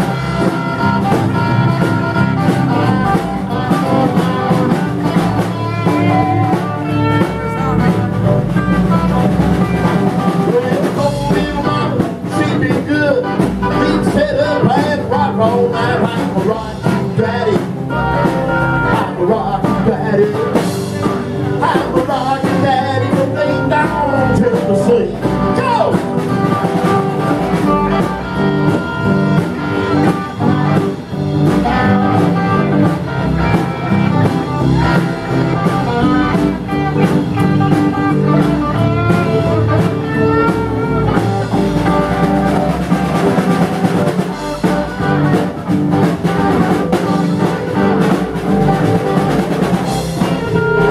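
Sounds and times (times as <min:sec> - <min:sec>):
drums: 0:00.0 - 0:50.9
electric guitar: 0:00.0 - 0:50.9
strummed acoustic guitar: 0:00.0 - 0:50.9
upright bass: 0:00.0 - 0:50.9.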